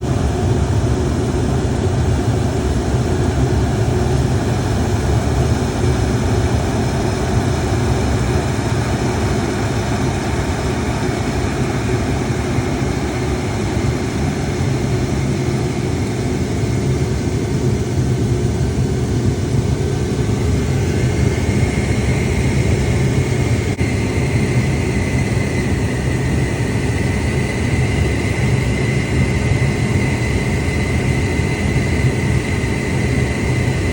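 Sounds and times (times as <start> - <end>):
boiler burner rumbling: 0.0 - 33.9
faint high whine: 2.0 - 33.9.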